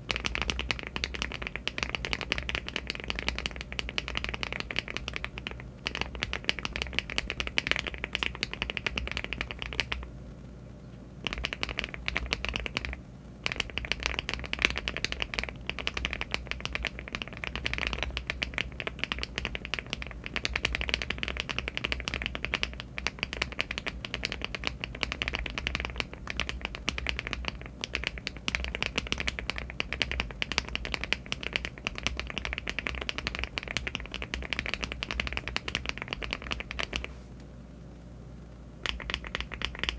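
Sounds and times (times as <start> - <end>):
fast typing on mechanical keyboard: 0.0 - 10.0, 11.2 - 37.1, 38.8 - 39.9.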